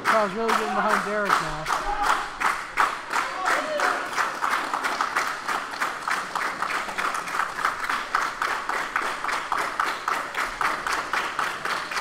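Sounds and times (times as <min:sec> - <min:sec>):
crowd clapping in rhythm: 0:00.0 - 0:12.0.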